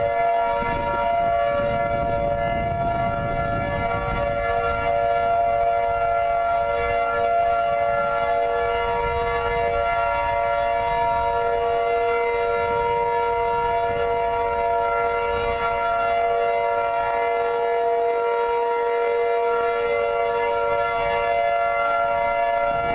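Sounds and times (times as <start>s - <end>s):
warning siren: 0.0s - 22.9s.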